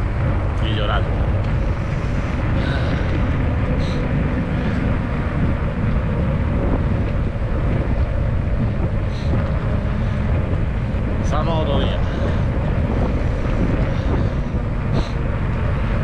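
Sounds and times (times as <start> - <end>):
tyres rumbling on asphalt: 0.0 - 16.0
wind rush on microphone: 0.0 - 16.0.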